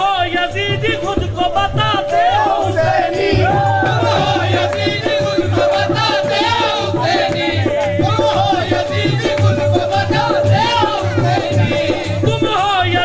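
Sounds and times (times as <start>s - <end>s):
dholak drum beat: 0.0s - 13.0s.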